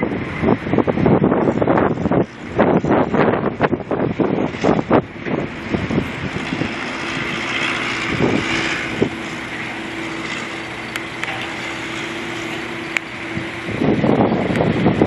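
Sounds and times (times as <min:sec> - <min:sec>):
low hum: 0:00.0 - 0:15.0
vehicle noise: 0:00.0 - 0:15.0
wind on microphone: 0:00.0 - 0:15.0.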